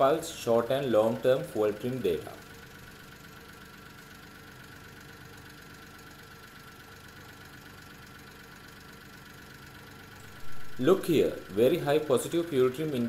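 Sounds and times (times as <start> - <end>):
faint engine idling: 0.0 - 13.0.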